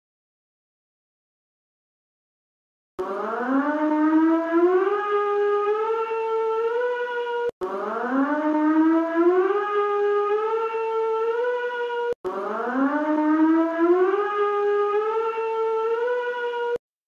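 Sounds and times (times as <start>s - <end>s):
warning siren wailing: 3.0s - 16.8s.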